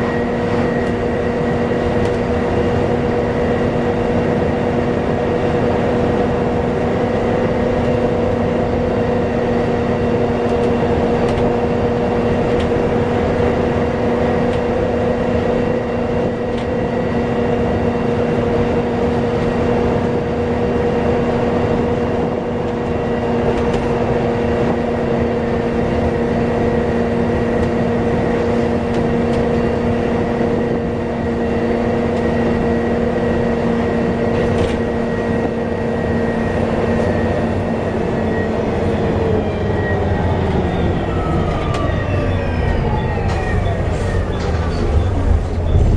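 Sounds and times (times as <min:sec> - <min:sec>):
bus running: 0:00.0 - 0:45.9
steady whine: 0:00.0 - 0:45.9.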